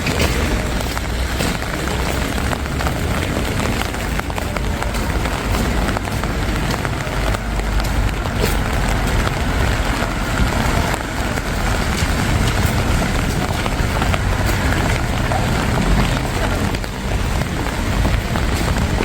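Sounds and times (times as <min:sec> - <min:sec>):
heavy rain on cobblestones: 0:00.0 - 0:19.0.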